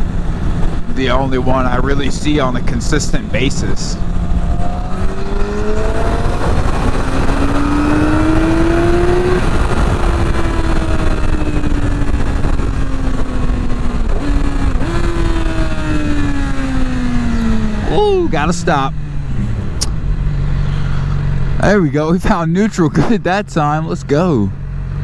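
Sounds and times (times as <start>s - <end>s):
wind rush: 0.0s - 21.6s
motorcycle engine accelerating: 0.0s - 25.0s.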